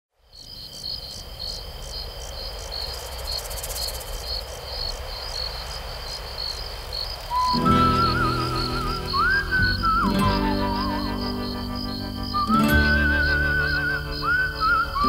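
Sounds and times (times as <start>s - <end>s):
crickets chirping: 0.2s - 15.0s.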